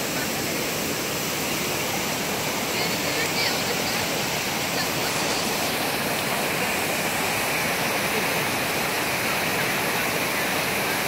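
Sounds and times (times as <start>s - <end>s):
waterfall splashing on rock: 0.0s - 11.0s.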